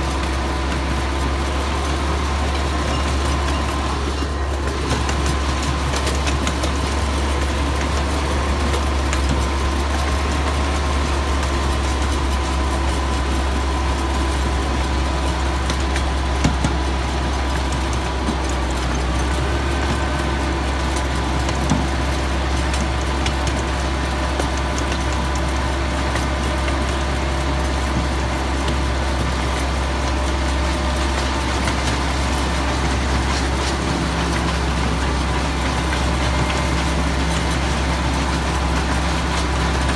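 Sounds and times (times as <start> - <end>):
miniature train engine running: 0.0 - 39.9.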